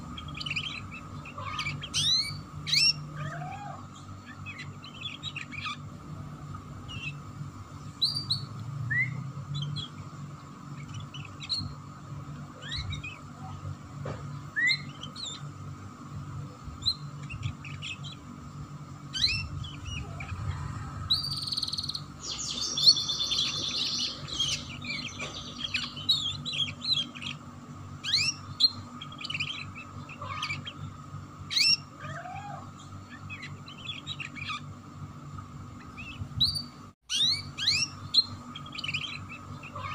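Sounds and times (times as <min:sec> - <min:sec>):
steady low hum: 0:00.0 - 0:39.9
canary chirping and trilling: 0:00.1 - 0:06.0, 0:06.6 - 0:10.0, 0:10.6 - 0:11.8, 0:12.5 - 0:13.3, 0:14.5 - 0:15.7, 0:19.0 - 0:34.8, 0:35.8 - 0:39.9.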